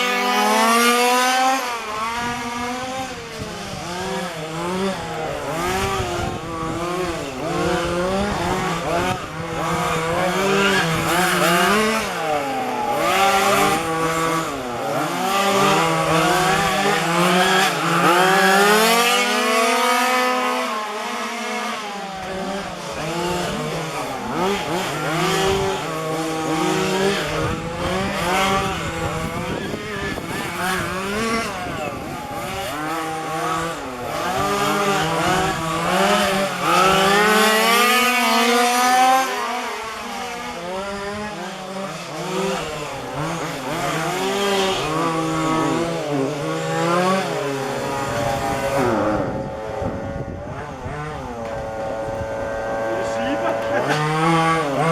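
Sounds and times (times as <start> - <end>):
small two-stroke engines racing: 0.0 - 54.9.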